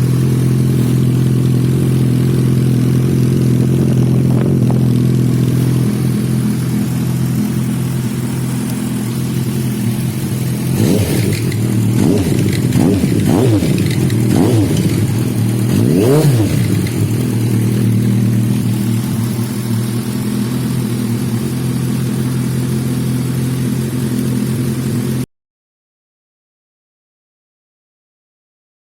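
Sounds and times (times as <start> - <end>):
motorcycle engine idling and revving: 0.0 - 25.3.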